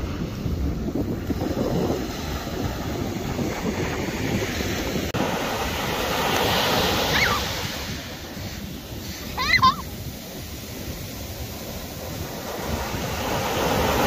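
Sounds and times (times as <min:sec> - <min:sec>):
ocean surf on beach: 0:00.0 - 0:14.0
wind buffeting microphone: 0:00.0 - 0:14.0.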